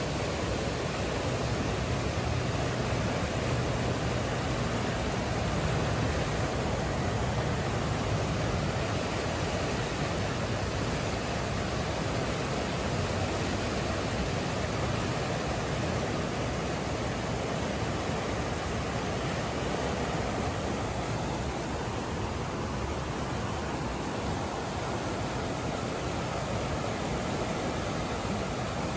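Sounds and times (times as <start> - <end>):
floodwater rushing: 0.0 - 28.9.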